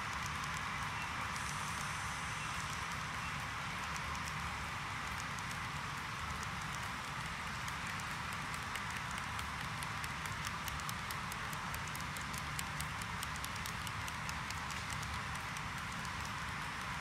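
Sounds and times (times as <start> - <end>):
model train wheels clicking: 0.0 - 17.0
rolling hiss and rumble: 0.0 - 17.0.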